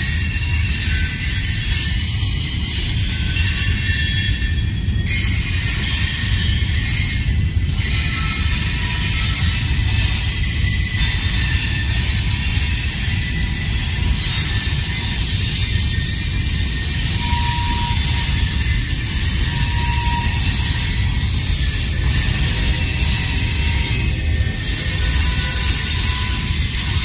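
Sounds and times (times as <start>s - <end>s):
high-pitched wheel squeal: 0.0s - 27.0s
train wheels rumbling on rail: 0.0s - 27.0s.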